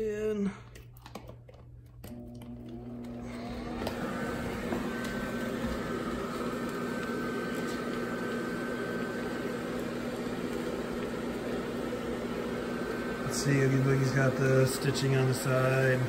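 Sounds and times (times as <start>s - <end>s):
blower fan humming: 0.0s - 16.0s.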